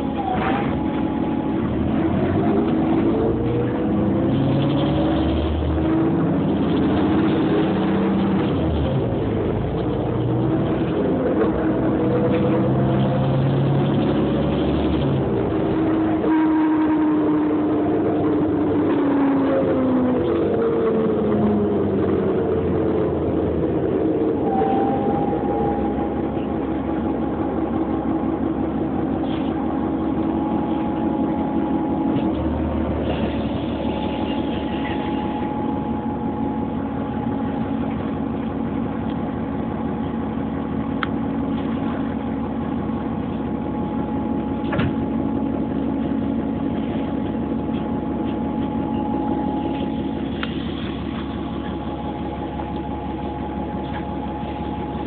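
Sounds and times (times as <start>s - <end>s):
bus engine idling: 0.0s - 55.0s
steady whine: 0.0s - 55.0s.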